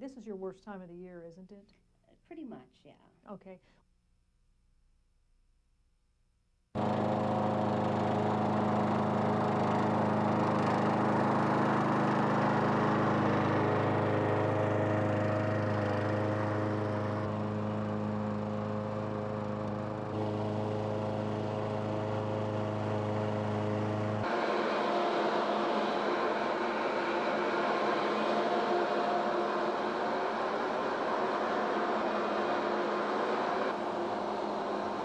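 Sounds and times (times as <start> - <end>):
engine running steadily: 6.8 - 35.0.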